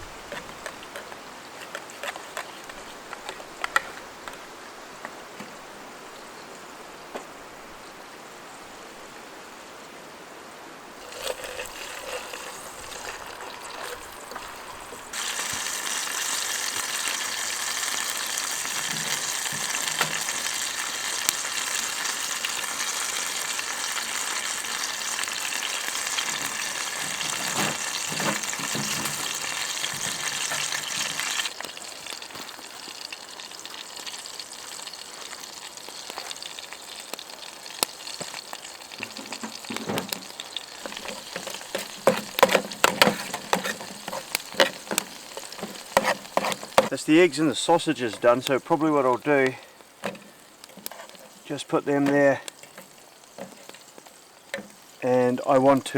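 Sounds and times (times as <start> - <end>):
sausages and eggs frying: 0.0 - 6.5, 11.0 - 55.9.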